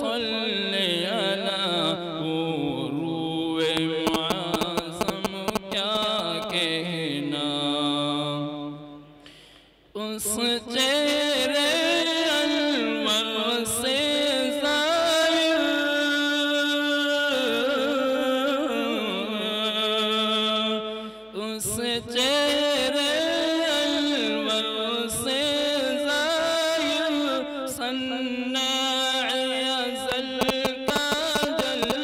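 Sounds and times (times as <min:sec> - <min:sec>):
man singing unaccompanied: 0:00.0 - 0:09.2, 0:09.9 - 0:32.0.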